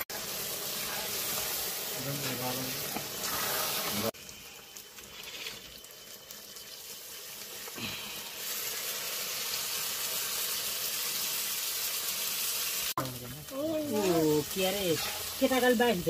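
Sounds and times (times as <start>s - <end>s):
sizzling in hot oil: 0.0s - 16.0s.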